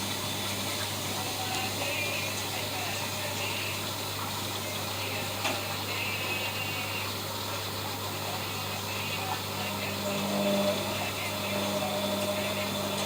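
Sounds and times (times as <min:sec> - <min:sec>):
higher motor hum: 0:00.0 - 0:13.0
washing machine hum: 0:00.0 - 0:13.0
water hissing: 0:00.0 - 0:13.0.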